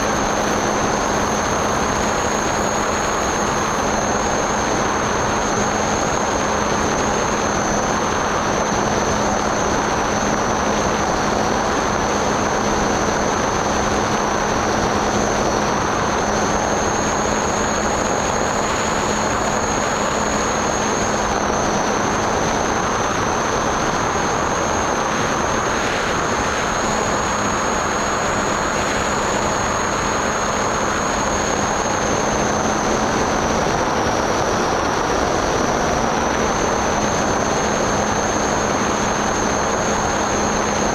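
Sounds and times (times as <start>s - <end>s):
model plane motor and propeller: 0.0s - 40.9s.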